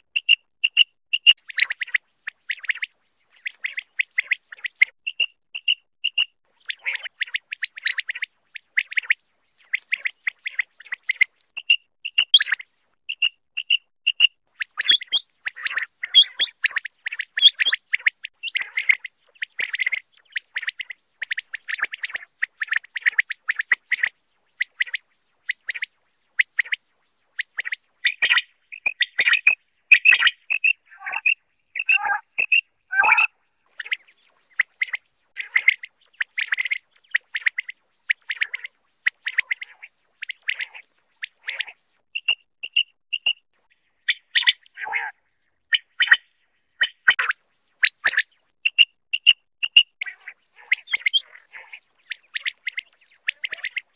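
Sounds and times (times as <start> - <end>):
quail chirping: 0.2 - 26.8, 27.4 - 43.4, 44.1 - 46.2, 46.8 - 53.9.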